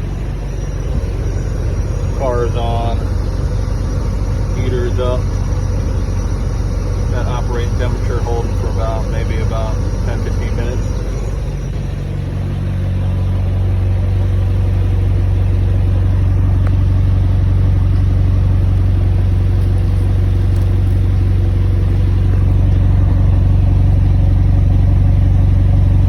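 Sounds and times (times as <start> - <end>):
car engine running steadily: 0.0 - 26.0.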